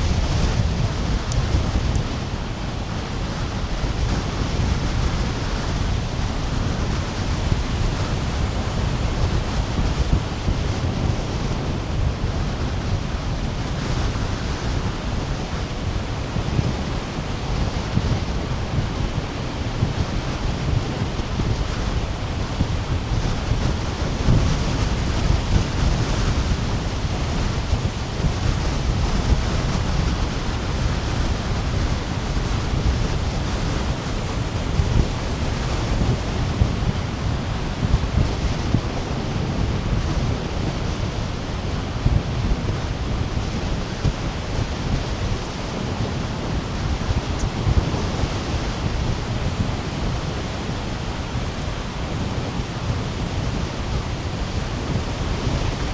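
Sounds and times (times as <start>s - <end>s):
surf washing up sandy beach: 0.0s - 55.9s
wind buffeting microphone: 0.0s - 55.9s.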